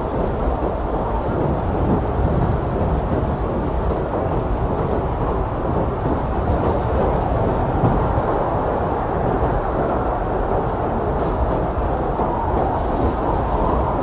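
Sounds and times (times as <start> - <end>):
strong blizzard wind: 0.0 - 14.0.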